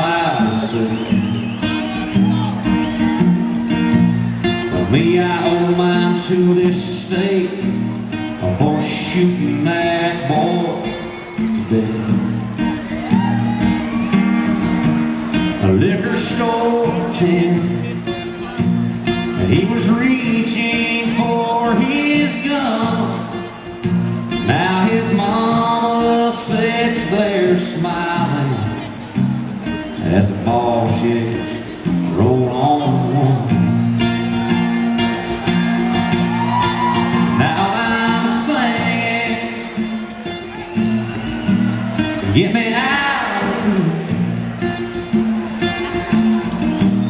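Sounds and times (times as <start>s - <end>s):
man singing country song: 0.0s - 47.0s
strummed acoustic guitar: 0.0s - 47.0s.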